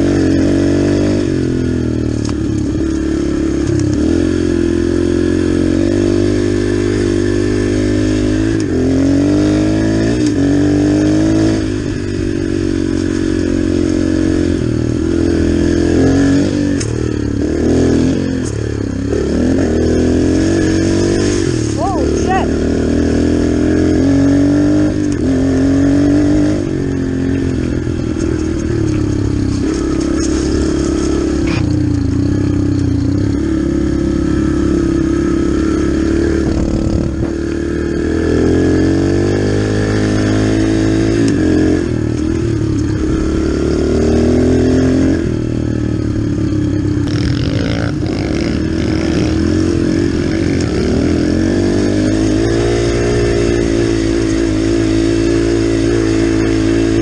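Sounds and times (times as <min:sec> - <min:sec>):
dirt bike engine accelerating: 0:00.0 - 0:57.0.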